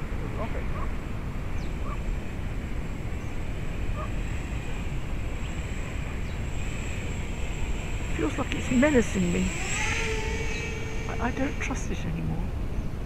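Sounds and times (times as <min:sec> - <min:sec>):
distant drone motors whining: 0:00.0 - 0:13.0
wind rumble on microphone: 0:00.0 - 0:13.0.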